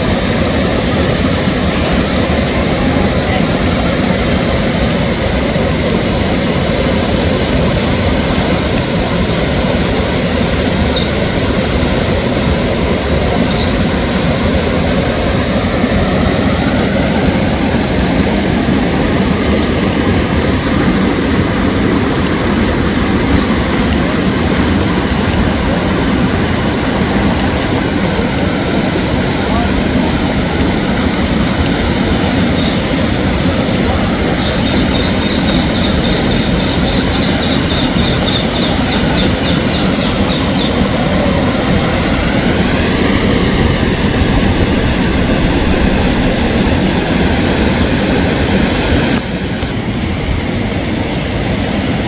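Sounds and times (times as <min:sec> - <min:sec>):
water rushing over dam: 0:00.0 - 0:52.0.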